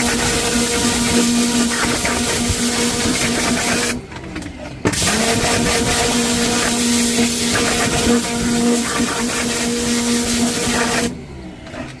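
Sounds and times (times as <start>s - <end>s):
pressure washer spray hiss: 0.0s - 4.0s, 4.9s - 11.2s
pressure washer motor hum: 0.0s - 12.0s.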